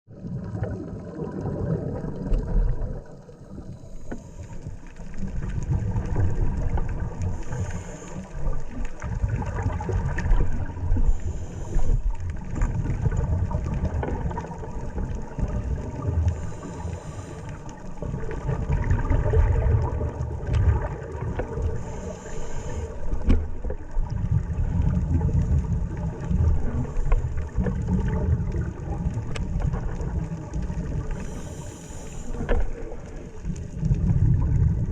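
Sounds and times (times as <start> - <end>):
underwater churning rumble: 0.1 - 34.9.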